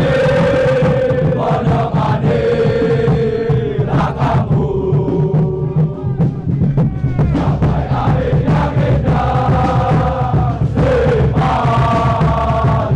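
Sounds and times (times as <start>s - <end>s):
crowd chanting in unison: 0.0s - 12.9s
steady beat: 0.0s - 12.9s.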